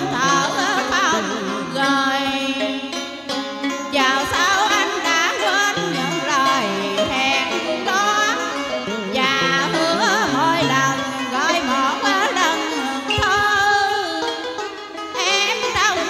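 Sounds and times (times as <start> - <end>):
woman singing into microphone: 0.0 - 3.2, 3.8 - 16.0
karaoke backing track: 0.0 - 14.6.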